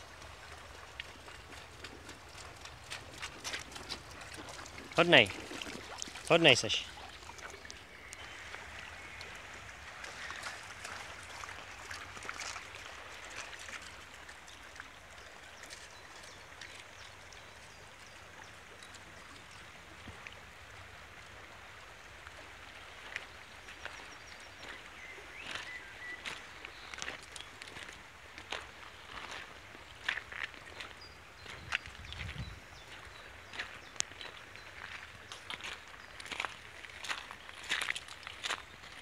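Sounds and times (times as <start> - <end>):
small splashes and clicks: 0.0 - 20.4, 23.0 - 31.0, 33.5 - 39.0
river running over gravel: 0.0 - 39.0.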